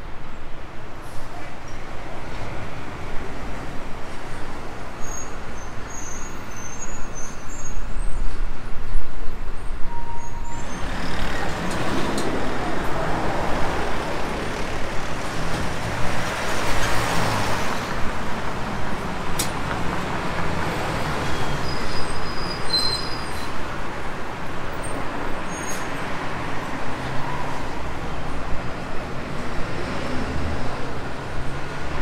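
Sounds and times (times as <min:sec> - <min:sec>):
traffic hum of engines and tyres: 0:00.0 - 0:32.0.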